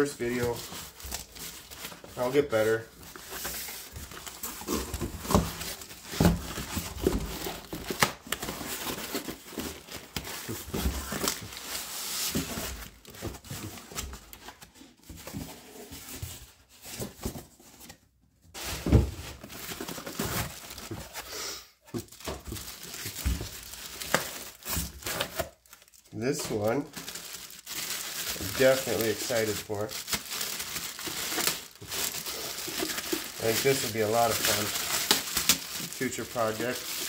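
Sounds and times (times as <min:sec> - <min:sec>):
bubble wrap and paper crinkling: 0:00.0 - 0:37.0.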